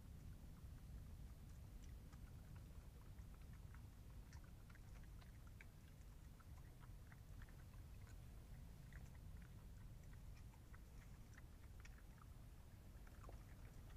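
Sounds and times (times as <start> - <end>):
animals chewing food: 0.0 - 13.9.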